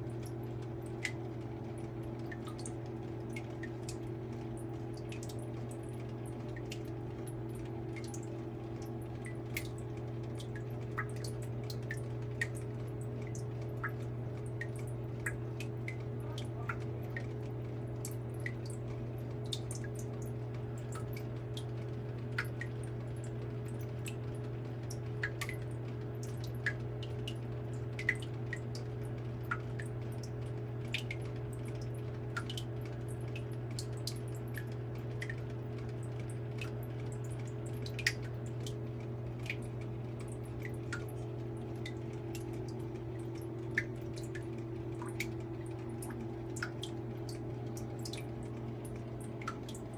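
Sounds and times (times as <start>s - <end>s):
steady low hum: 0.0s - 49.9s
water drops falling: 0.1s - 49.9s.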